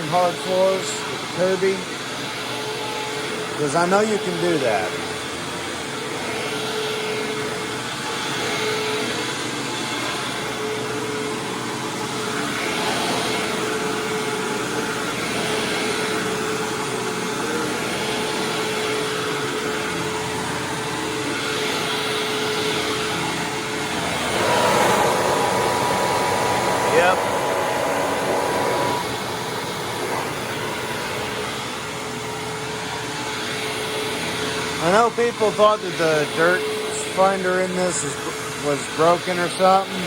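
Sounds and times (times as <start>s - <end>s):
vacuum cleaner running on carpet: 0.0s - 40.0s.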